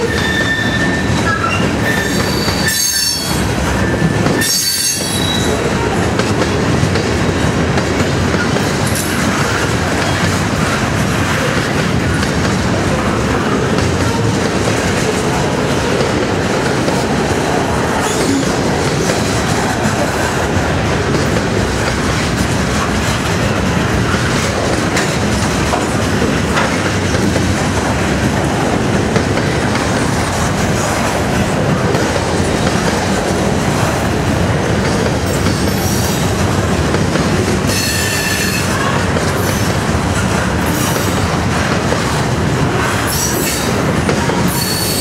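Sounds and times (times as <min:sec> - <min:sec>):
freight train wheels on rails: 0:00.0 - 0:45.0.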